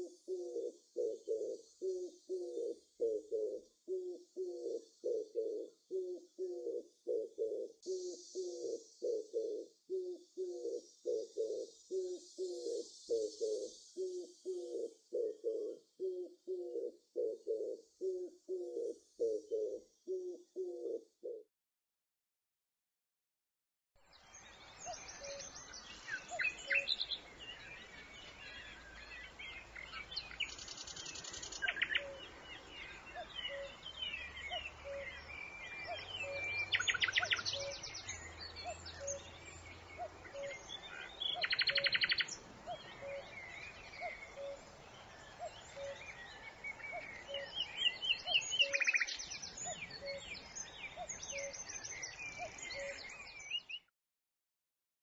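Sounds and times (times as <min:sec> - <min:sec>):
songbirds singing and trilling: 0:00.0 - 0:21.0, 0:24.0 - 0:53.9.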